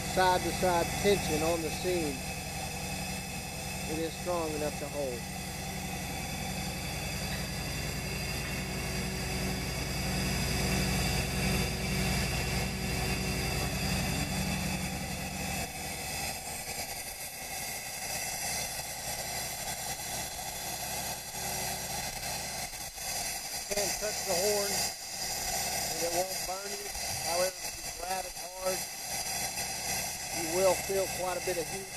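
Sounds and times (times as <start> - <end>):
high steady machine tones: 0.0 - 31.9
steady machine hum: 0.0 - 31.9.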